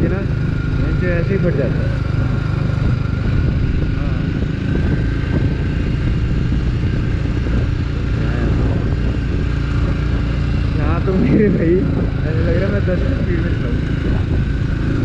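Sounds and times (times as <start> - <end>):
motorcycle engine running: 0.0 - 15.0
wind on microphone: 0.0 - 15.0.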